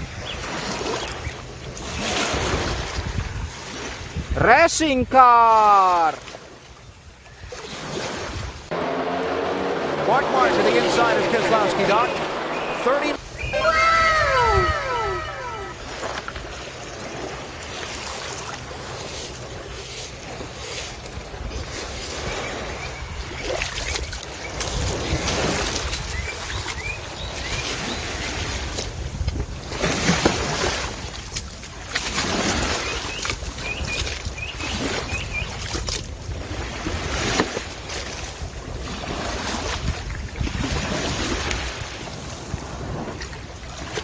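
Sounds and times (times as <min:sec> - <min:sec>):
wind buffeting microphone: 0:00.0 - 0:05.2, 0:09.9 - 0:17.4, 0:19.6 - 0:44.0.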